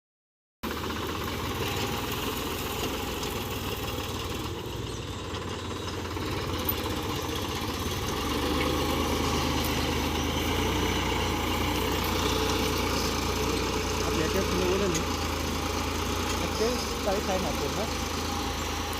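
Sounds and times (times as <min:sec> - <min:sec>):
tractor diesel engine running: 0:00.6 - 0:18.9.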